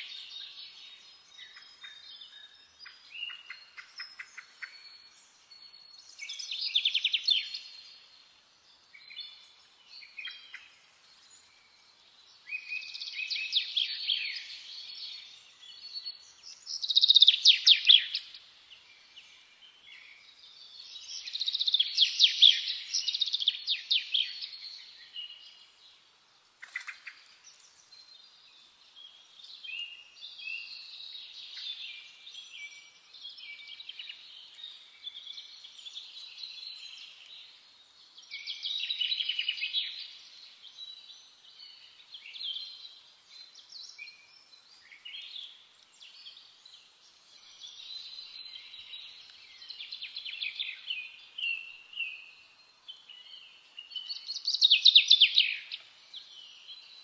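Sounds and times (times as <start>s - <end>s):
birds singing and chirping: 0.0s - 57.0s.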